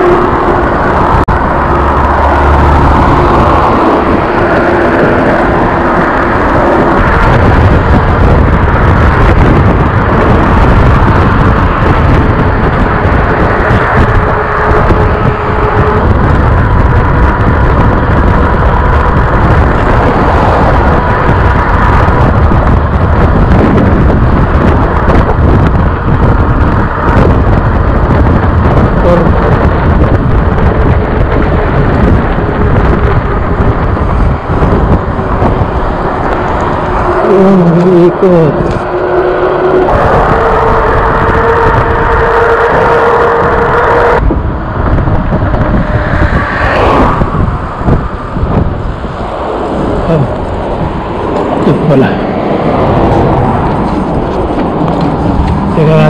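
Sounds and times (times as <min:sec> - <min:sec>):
road and traffic noise: 0:00.0 - 0:56.0
wind buffeting microphone: 0:00.0 - 0:56.0.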